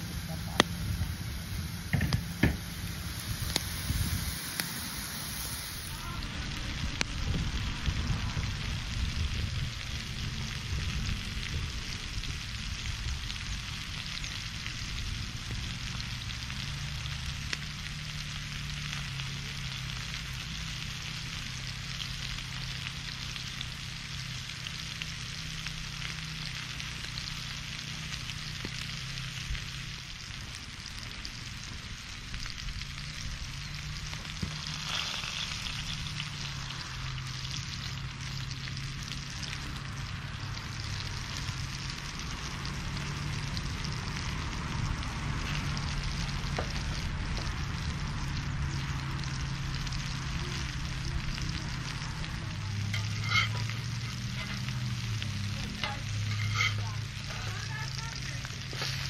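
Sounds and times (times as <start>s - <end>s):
food sizzling in frying: 0.0s - 59.0s.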